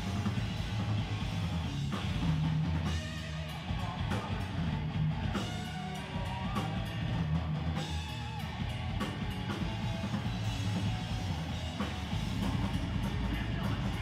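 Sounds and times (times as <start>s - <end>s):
live rock band: 0.0s - 14.0s
pounding drum kit: 0.0s - 14.0s.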